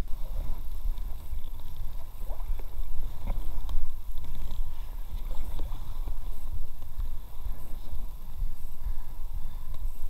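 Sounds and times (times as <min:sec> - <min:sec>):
paddles splashing water: 0:00.0 - 0:09.0
low microphone rumble: 0:00.0 - 0:10.0.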